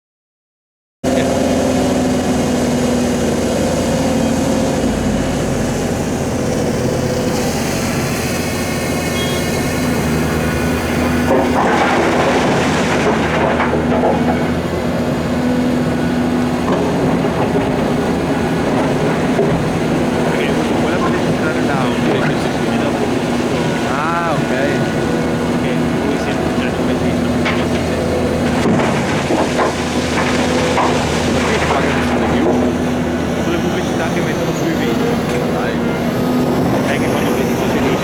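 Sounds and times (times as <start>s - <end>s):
large diesel engine running: 1.0s - 38.0s.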